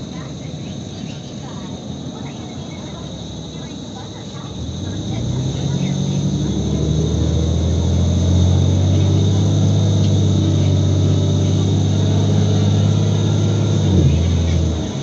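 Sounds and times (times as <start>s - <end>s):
bus engine roaring under load: 0.0s - 15.0s.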